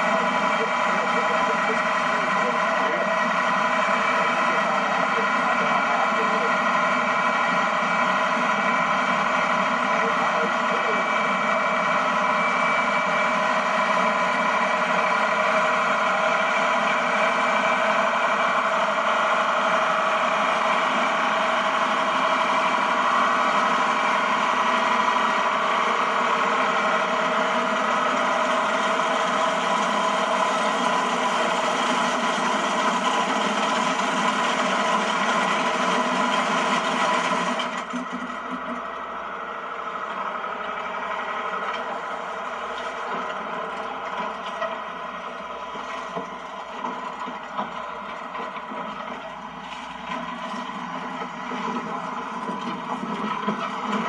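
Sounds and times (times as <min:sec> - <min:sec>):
corn picker machinery: 0:00.0 - 0:54.0
tractor engine running: 0:00.0 - 0:54.0.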